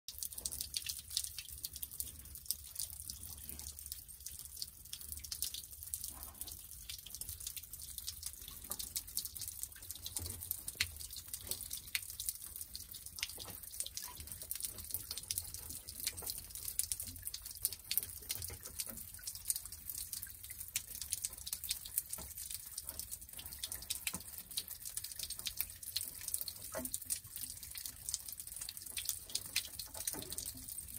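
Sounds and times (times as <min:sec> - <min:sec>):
water trickling and dripping over rock: 0:00.1 - 0:30.9.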